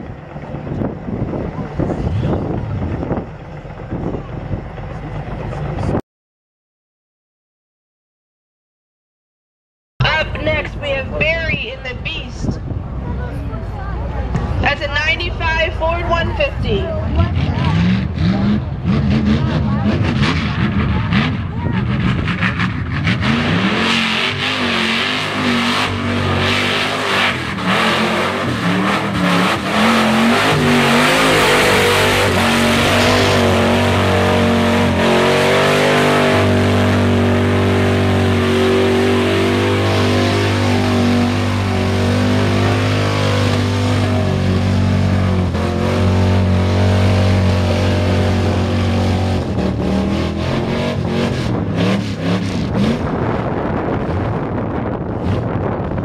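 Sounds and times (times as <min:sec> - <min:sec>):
truck engine revving: 0:00.0 - 0:06.0, 0:10.0 - 0:56.0.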